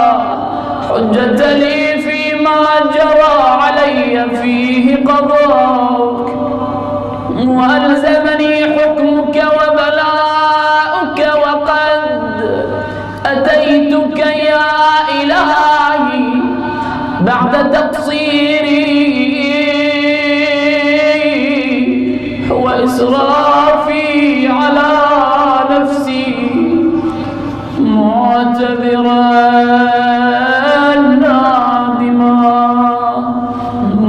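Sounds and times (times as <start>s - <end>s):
man chanting melodically: 0.0s - 34.0s.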